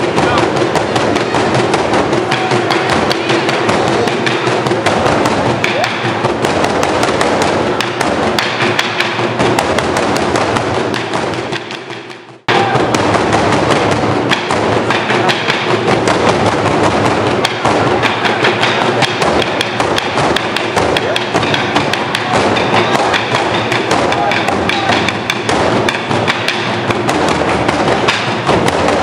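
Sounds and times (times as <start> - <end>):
barrel drums beaten fast: 0.0 - 29.0.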